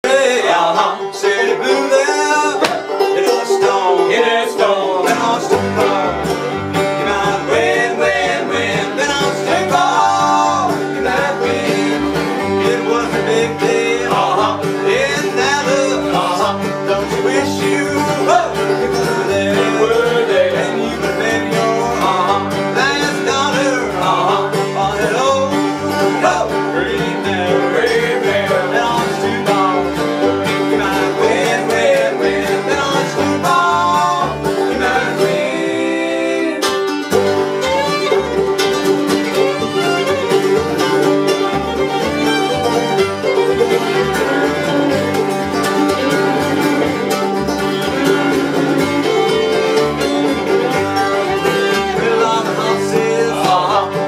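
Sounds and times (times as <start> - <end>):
bluegrass string band playing: 0.0 - 54.0
plucked upright bass: 0.0 - 54.0.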